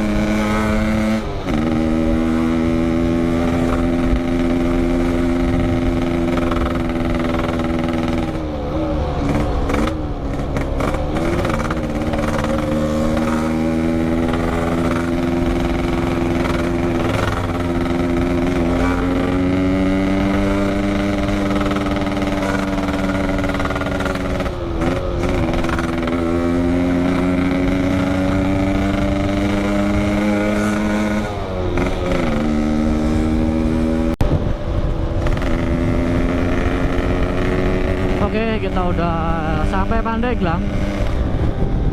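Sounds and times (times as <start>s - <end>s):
two-stroke motorcycle engine: 0.0s - 41.9s.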